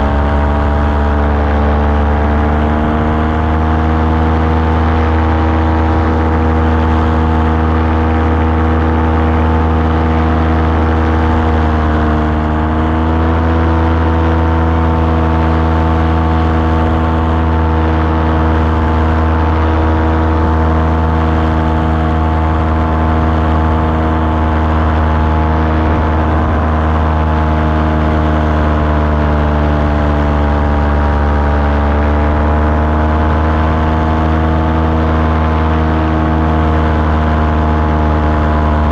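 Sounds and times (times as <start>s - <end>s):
small aircraft engine and propeller: 0.0s - 38.9s.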